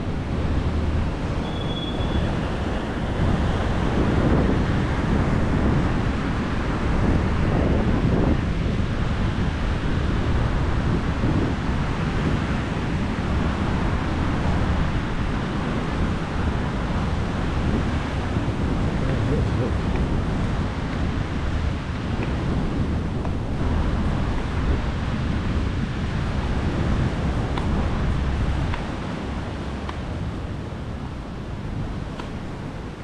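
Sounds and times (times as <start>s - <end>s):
surf on a sandy beach: 0.0s - 33.0s
wind buffeting microphone: 0.0s - 33.0s.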